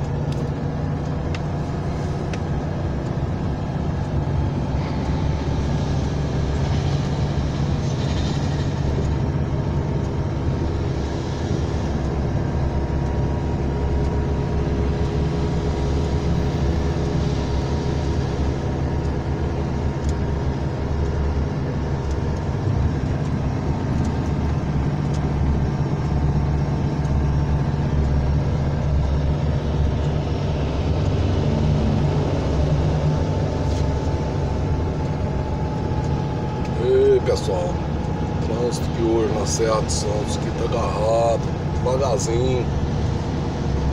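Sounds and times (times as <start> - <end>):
heavy vehicle engine drone: 0.0 - 43.9
road noise: 0.0 - 43.9.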